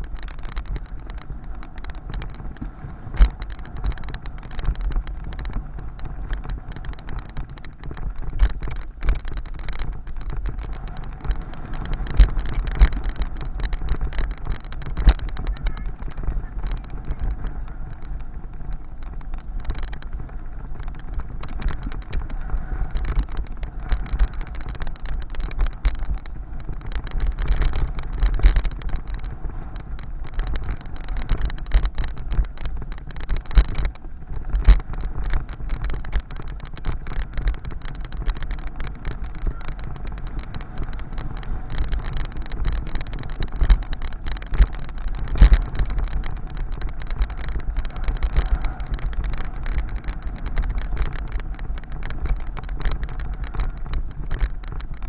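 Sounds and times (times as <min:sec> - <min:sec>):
bike rattling knocks: 0:00.0 - 0:55.0
wind buffeting microphone: 0:00.0 - 0:55.0.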